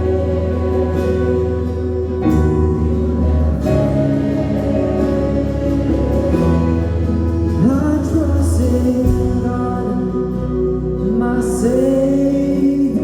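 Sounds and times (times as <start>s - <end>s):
bass holding notes: 0.0s - 13.0s
worship band playing gospel song: 0.0s - 13.0s.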